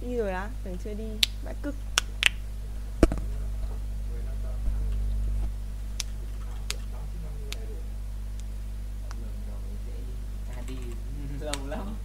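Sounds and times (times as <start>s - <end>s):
low rumble: 0.0s - 10.5s
low electrical hum: 0.0s - 12.0s.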